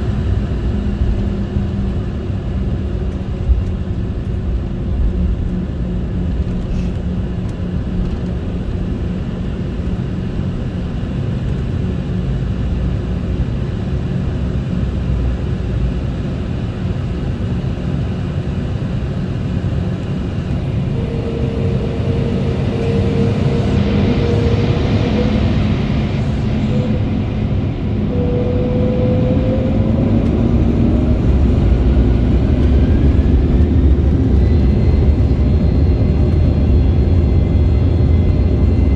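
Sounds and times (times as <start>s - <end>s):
jet engine whine rising: 0.0s - 38.9s
jet engines rumbling: 0.0s - 38.9s.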